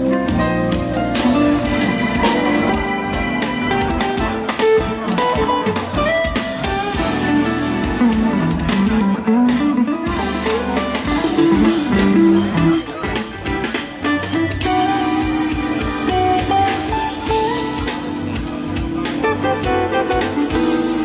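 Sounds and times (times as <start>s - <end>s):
guitar instrumental with drums: 0.0s - 21.0s.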